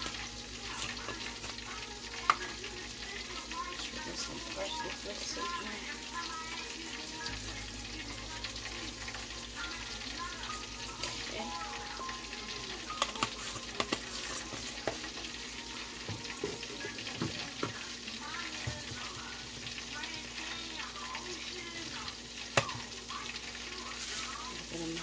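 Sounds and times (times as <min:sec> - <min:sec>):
chicken frying in oil: 0:00.0 - 0:25.0.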